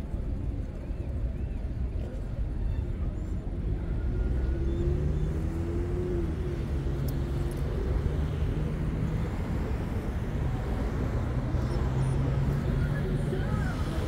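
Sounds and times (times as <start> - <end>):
motor traffic rumble: 0.0 - 14.0.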